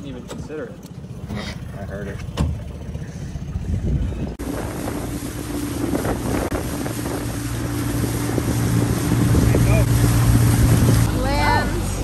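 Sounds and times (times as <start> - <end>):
boat motor humming: 0.0 - 12.0
water and wind noise: 0.0 - 12.0.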